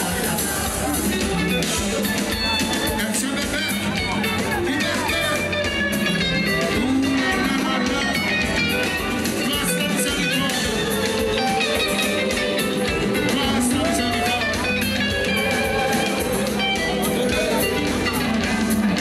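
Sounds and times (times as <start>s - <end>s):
band music with electric guitar: 0.0s - 19.0s.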